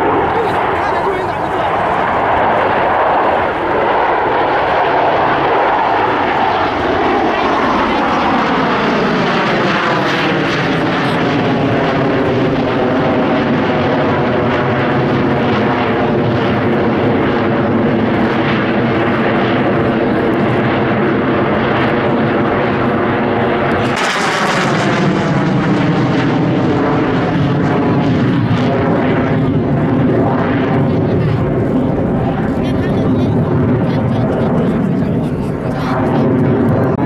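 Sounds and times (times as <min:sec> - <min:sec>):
jet engine noise: 0:00.0 - 0:37.0
jet passing close: 0:00.0 - 0:37.0.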